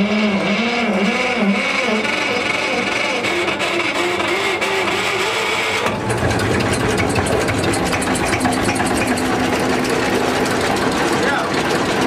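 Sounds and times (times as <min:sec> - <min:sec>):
diesel engine idling: 0:00.8 - 0:12.0.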